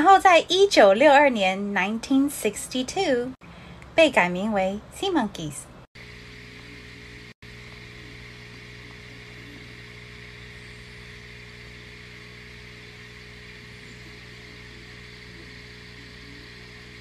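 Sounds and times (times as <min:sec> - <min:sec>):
steady low hum with tones: 0:00.0 - 0:17.0.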